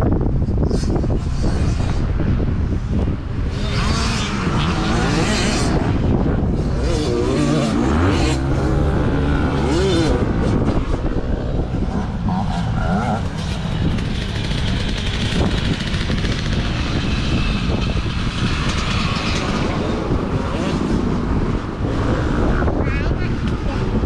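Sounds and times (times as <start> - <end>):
dirt bike engine revving: 3.2 - 22.9.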